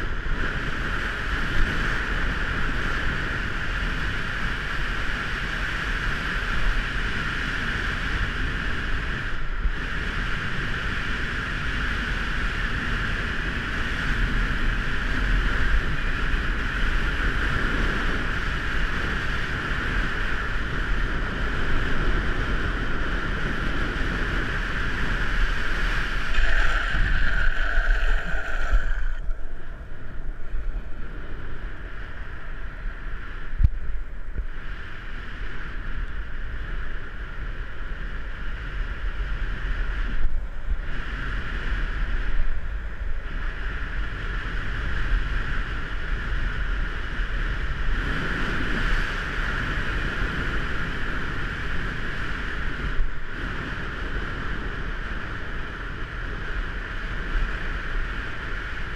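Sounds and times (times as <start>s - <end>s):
skateboard wheels rolling on asphalt: 0.0s - 58.9s
wind rushing over camera: 0.0s - 58.9s.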